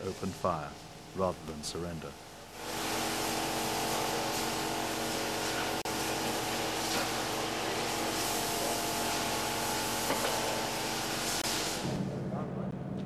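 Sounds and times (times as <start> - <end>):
steady hiss: 0.0 - 12.1.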